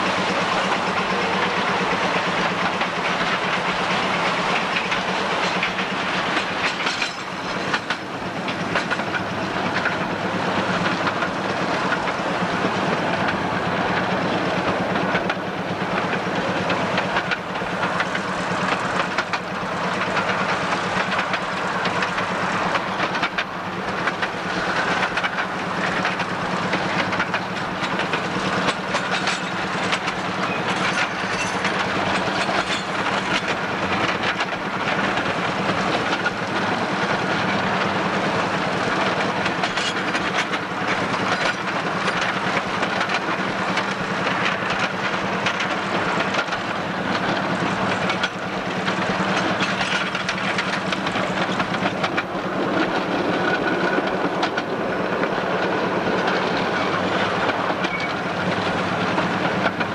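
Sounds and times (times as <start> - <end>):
train wheels clattering on track: 0.0 - 59.9.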